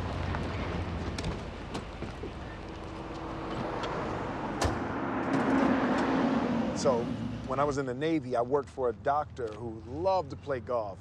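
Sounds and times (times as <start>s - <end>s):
car running: 0.0s - 9.6s
street traffic: 0.0s - 11.0s.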